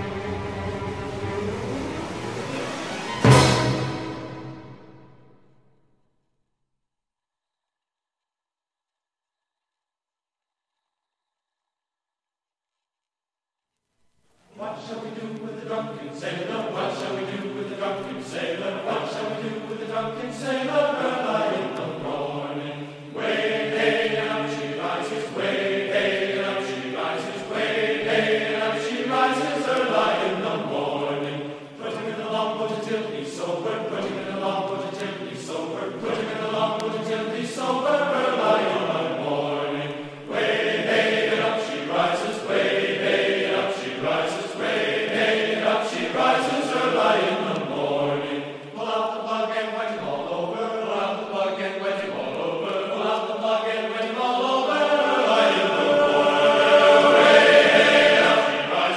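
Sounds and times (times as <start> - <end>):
choir chanting: 0.0 - 5.3, 14.5 - 58.9.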